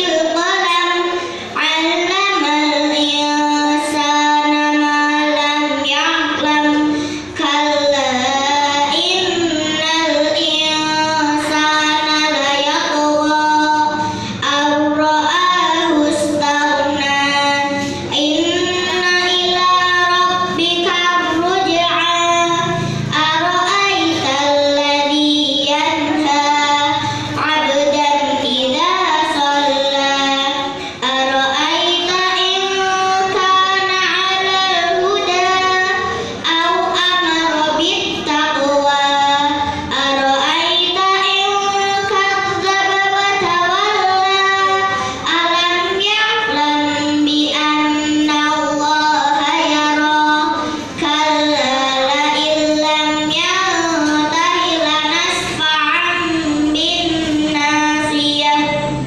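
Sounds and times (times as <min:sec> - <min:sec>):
girl chanting into a microphone: 0:00.0 - 0:59.0.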